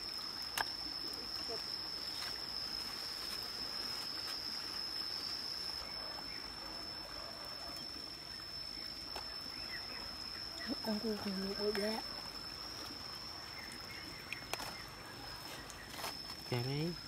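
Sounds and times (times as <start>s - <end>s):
stream trickling over rocks: 0.0s - 17.0s.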